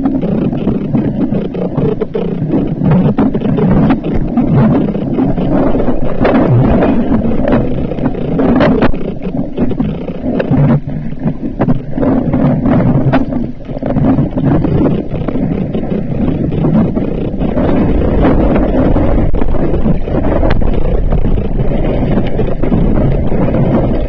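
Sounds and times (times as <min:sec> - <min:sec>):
muffled underwater rumble: 0:00.0 - 0:24.0.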